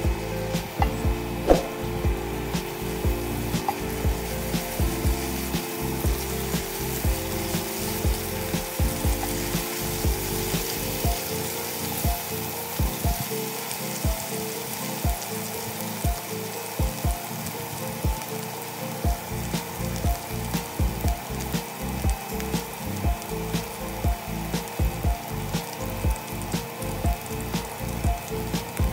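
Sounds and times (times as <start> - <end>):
background music: 0.0 - 28.9
garlic sizzling in hot oil: 0.0 - 28.9.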